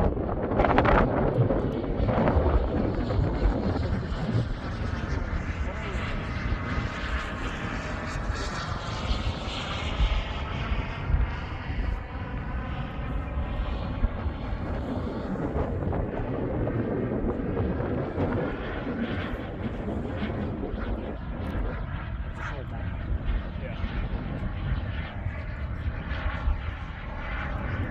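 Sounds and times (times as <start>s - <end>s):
model jet turbine whine: 0.0s - 27.9s.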